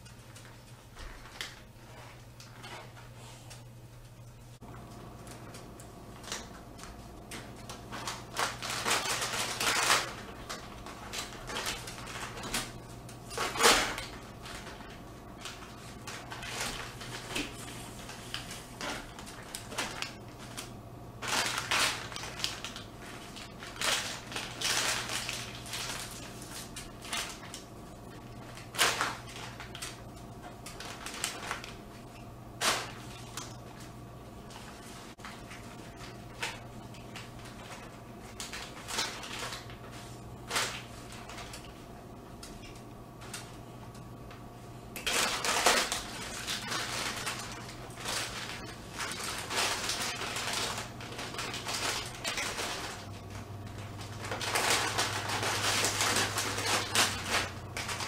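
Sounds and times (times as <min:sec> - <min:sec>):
dog rummaging in a plastic bag: 0:06.2 - 0:41.8, 0:45.0 - 0:58.0.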